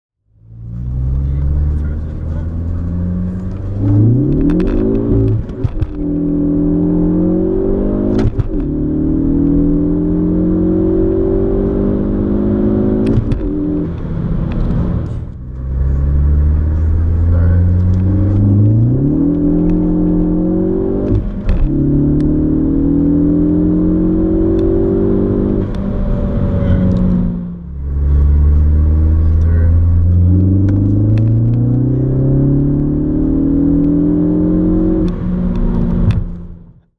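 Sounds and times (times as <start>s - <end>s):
car engine accelerating: 0.3s - 36.9s.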